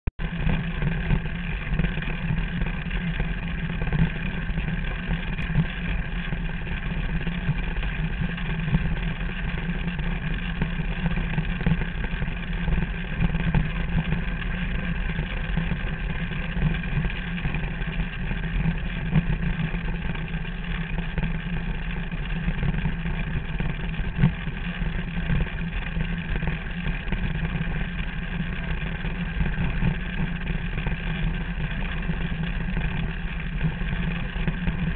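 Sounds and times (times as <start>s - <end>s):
small engine running: 0.2s - 34.9s.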